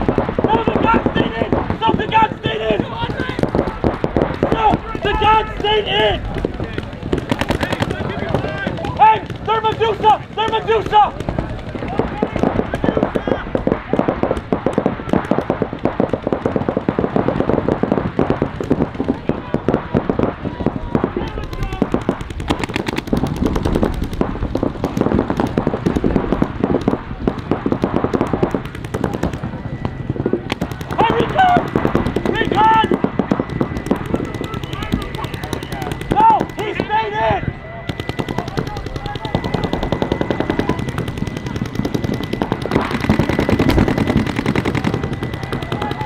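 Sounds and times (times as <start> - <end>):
paintball markers firing rapidly: 0.0 - 46.0.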